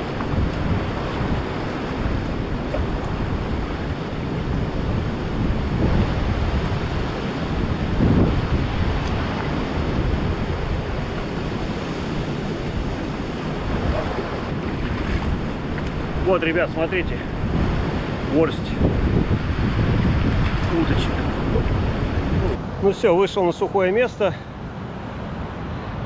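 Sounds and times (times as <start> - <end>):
wind buffeting microphone: 0.0 - 22.7
ocean surf over rocks: 0.0 - 26.0.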